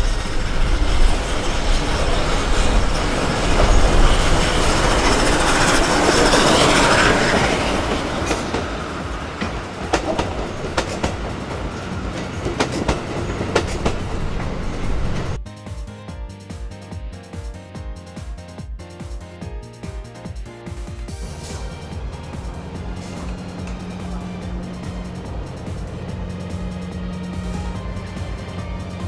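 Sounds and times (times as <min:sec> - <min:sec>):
steam locomotive rumbling past: 0:00.0 - 0:15.4, 0:19.5 - 0:29.0
wheels clicking over rail joints: 0:00.0 - 0:15.4, 0:21.1 - 0:29.0.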